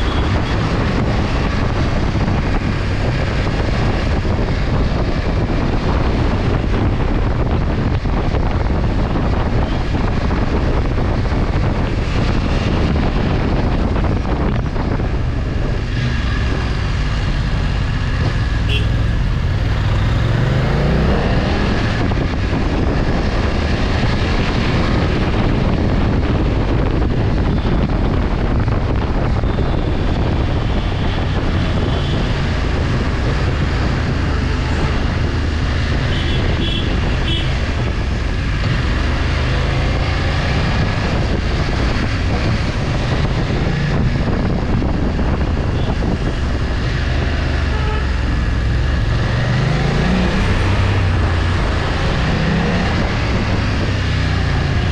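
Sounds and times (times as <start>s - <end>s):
motorcycle engine drone: 0.0s - 54.9s
wind rushing over microphone: 0.0s - 54.9s.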